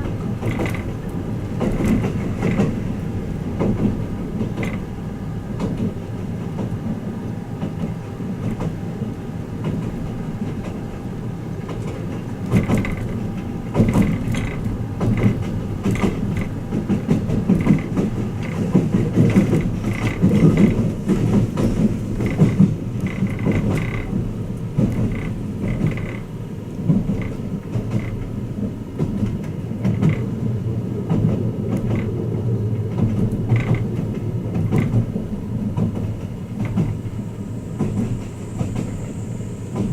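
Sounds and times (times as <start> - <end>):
wheels clicking over rail joints: 0.0 - 7.0, 7.6 - 37.2
train rumble: 0.0 - 39.9.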